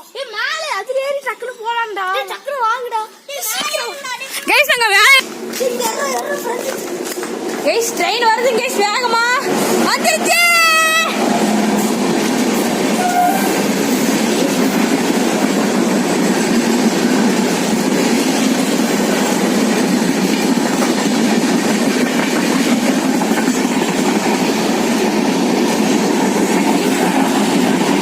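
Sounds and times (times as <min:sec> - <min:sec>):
train passing at speed: 0:00.4 - 0:28.0.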